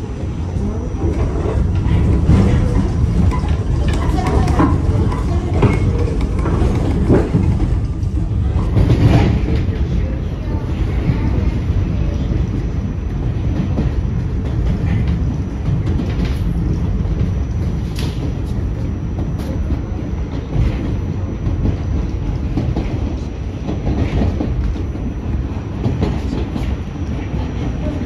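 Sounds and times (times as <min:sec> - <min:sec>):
subway car rumbling on track: 0:00.0 - 0:28.0
wheels clacking over rails: 0:01.0 - 0:28.0.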